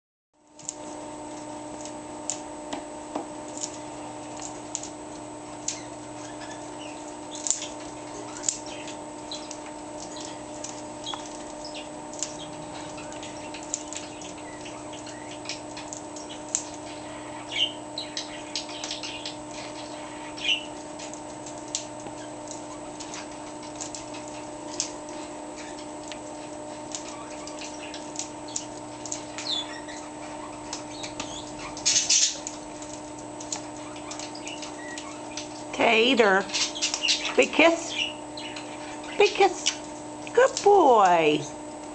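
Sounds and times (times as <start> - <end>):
steady low hum: 0.4 - 41.9.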